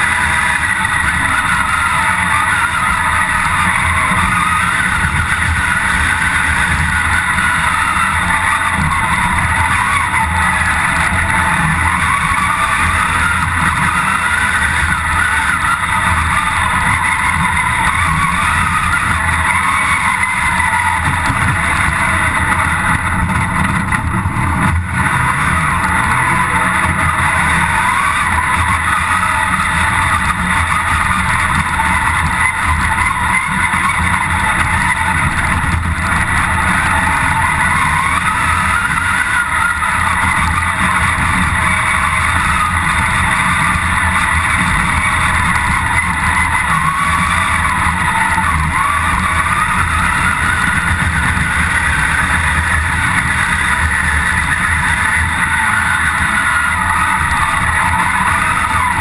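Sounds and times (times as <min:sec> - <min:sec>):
off-road car engine revving: 0:00.0 - 0:59.0.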